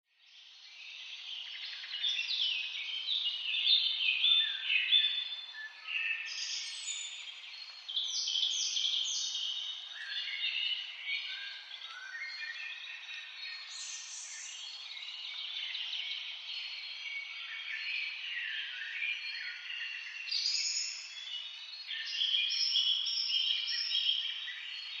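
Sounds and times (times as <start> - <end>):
songbirds chirping and whistling: 0.2 - 25.0.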